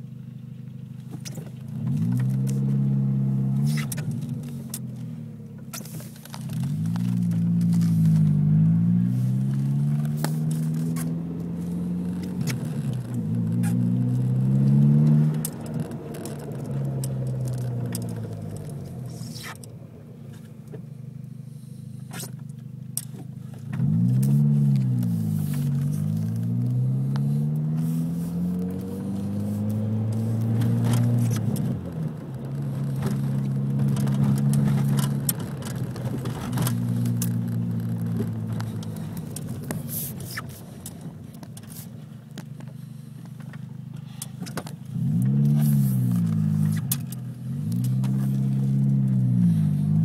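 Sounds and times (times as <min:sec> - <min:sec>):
car engine revving: 0:01.6 - 0:20.4, 0:21.2 - 0:50.0.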